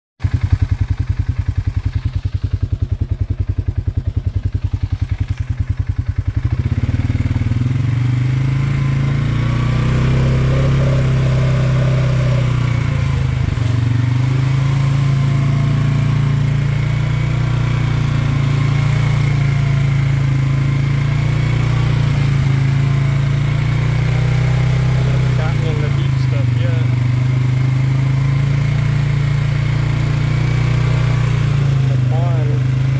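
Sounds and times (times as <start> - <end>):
atv engine idling and revving: 0.2 - 32.9.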